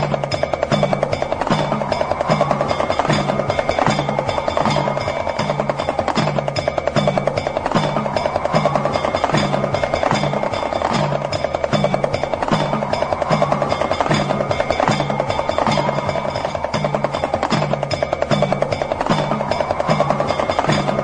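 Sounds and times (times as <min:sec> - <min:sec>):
hand drum rattling: 0:00.0 - 0:21.0.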